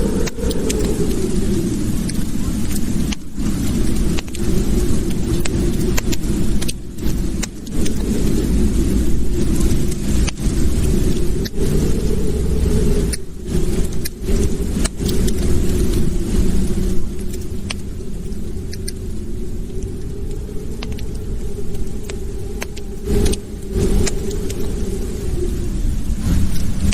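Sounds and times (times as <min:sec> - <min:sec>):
fire crackling with pops: 0:00.0 - 0:26.9
low roar of flames: 0:00.0 - 0:26.9.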